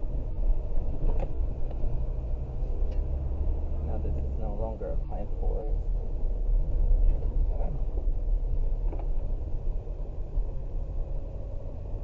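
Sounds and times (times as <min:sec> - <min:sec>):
tyres on dirt track: 0:00.0 - 0:12.0
vehicle engine rumble: 0:00.0 - 0:12.0.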